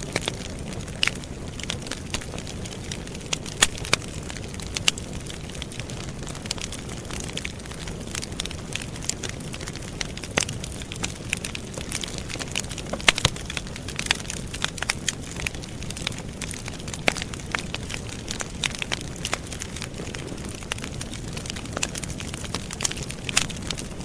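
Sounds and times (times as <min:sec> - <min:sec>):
campfire crackling and popping: 0:00.0 - 0:24.0
low rumble of flames: 0:00.0 - 0:24.0.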